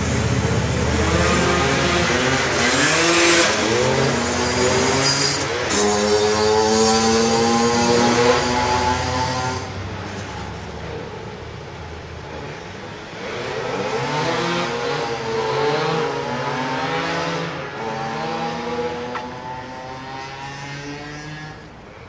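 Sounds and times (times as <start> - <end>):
vehicle engines passing by: 0.0 - 22.0.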